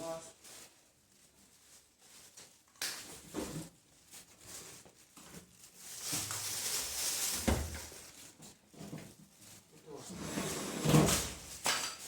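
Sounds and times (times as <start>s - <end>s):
rustling: 0.1s - 12.0s.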